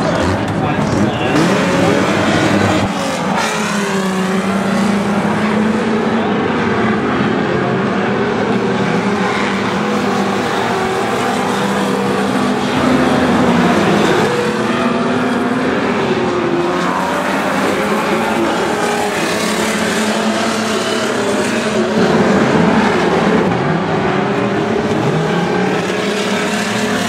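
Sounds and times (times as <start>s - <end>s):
racing car engines revving: 0.0s - 27.0s.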